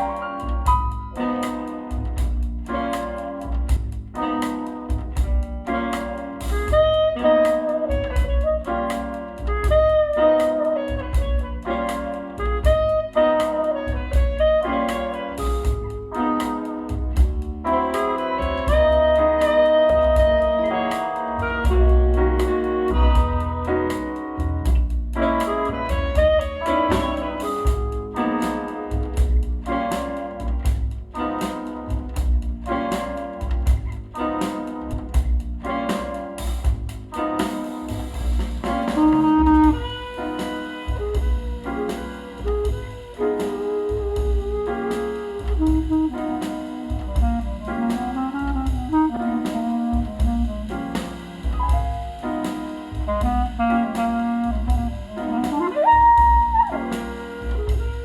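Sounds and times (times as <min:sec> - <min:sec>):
bass: 0:00.0 - 0:58.0
crisp drum strokes: 0:00.0 - 0:58.0
piano: 0:00.0 - 0:58.0
saxophone: 0:00.0 - 0:58.0.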